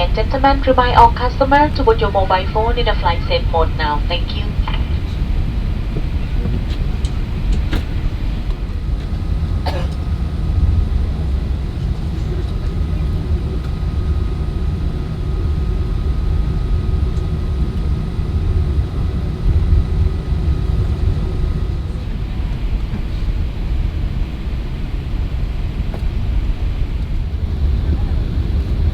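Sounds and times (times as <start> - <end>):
faint steady whine: 0.0 - 28.9
low rumble of aircraft engines: 0.0 - 28.9.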